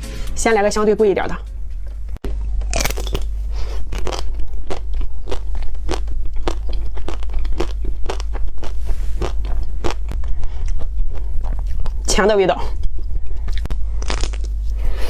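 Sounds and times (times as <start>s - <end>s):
steady low hum: 0.0s - 15.0s
chocolate coating crunching: 2.4s - 15.0s.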